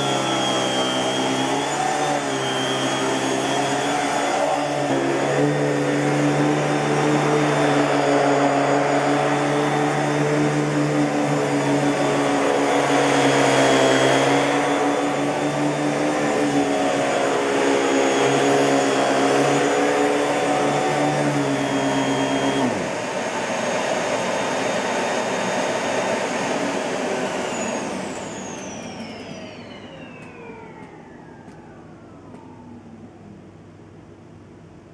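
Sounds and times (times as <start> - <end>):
motor winding down: 0.0 - 23.2, 26.5 - 33.3
vacuum cleaner whining hum: 0.0 - 34.5.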